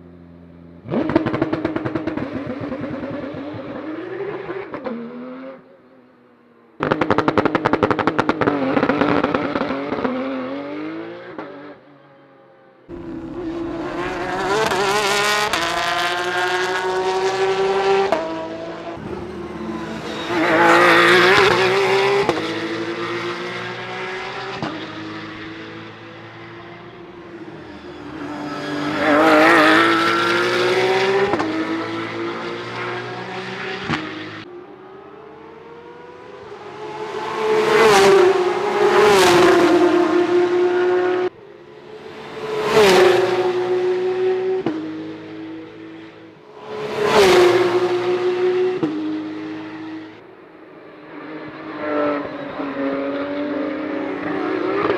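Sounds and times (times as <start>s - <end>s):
race cars passing by: 0.0s - 54.9s
race car engine revving: 0.6s - 5.6s, 12.9s - 50.2s, 51.2s - 54.9s.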